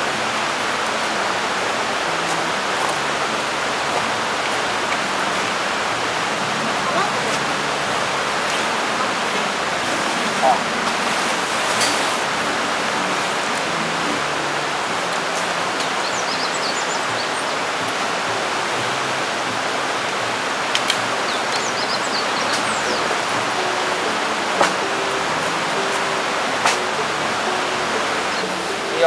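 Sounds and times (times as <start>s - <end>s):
stream rushing: 0.0s - 29.0s.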